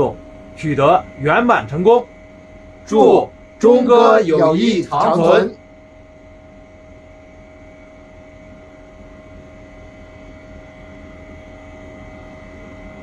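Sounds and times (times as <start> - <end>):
fans humming and hissing: 0.0 - 13.0.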